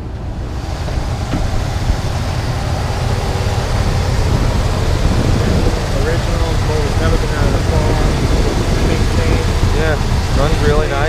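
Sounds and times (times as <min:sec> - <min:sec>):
car engine idling: 0:00.0 - 0:11.0
wind rumbling on microphone: 0:00.0 - 0:11.0.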